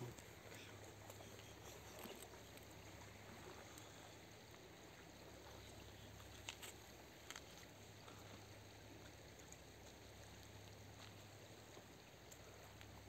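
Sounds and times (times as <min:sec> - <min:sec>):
faint flowing river water: 0:00.0 - 0:13.0.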